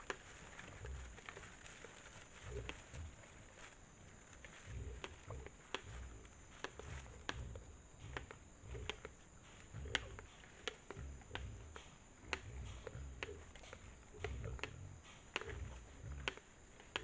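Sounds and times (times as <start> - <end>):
corn being chewed cracks: 0.0 - 17.0
rustling of dry leaves: 0.0 - 17.0
soft low thuds: 0.0 - 17.0.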